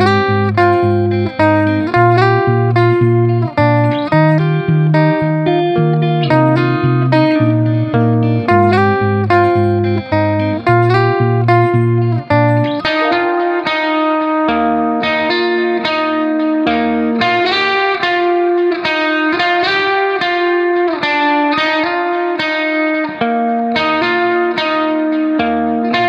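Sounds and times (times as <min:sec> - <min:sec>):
plucked guitar music: 0:00.0 - 0:26.0.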